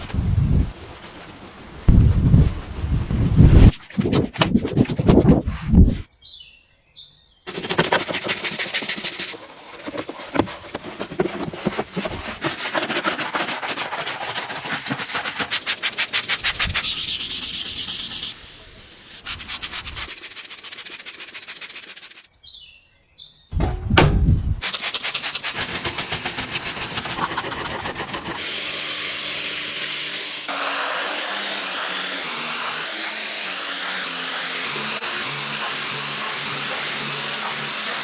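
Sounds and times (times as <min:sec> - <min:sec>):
scrubbing car surface: 0:00.7 - 0:06.0, 0:07.5 - 0:22.3, 0:24.6 - 0:38.0.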